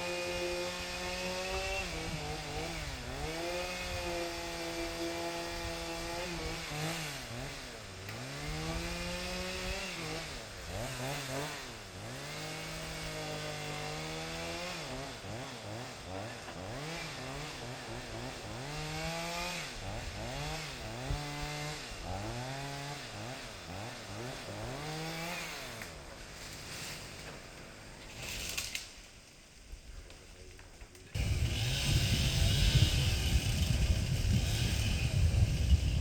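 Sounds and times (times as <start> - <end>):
chainsaw engine revving: 0.0 - 29.1, 31.1 - 36.0.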